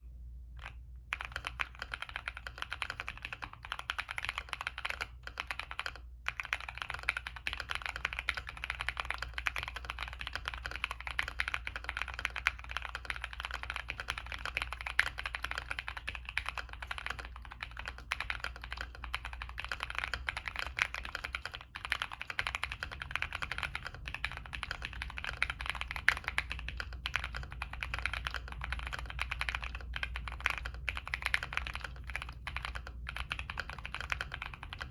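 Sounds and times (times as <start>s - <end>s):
mechanical keyboard typing: 0.6s - 34.9s.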